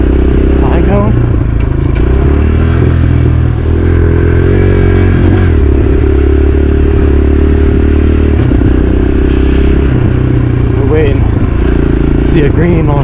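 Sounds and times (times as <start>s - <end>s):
dirt bike engine under throttle: 0.0s - 13.0s.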